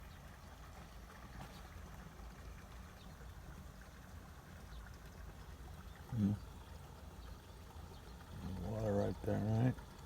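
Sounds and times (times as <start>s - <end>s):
faint running water: 0.0s - 10.0s.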